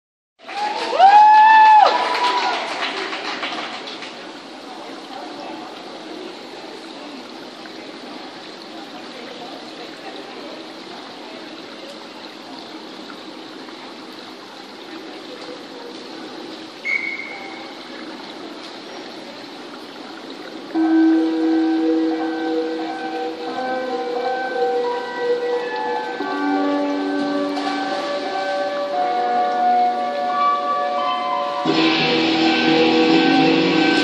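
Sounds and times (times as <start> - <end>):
running water hissing: 4.4 - 34.0.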